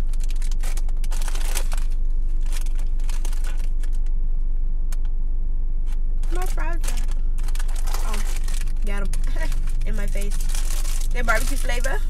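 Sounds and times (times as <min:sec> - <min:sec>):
snack packaging crinkling: 0:00.0 - 0:04.0, 0:06.2 - 0:12.0
low hum inside car: 0:00.0 - 0:12.0.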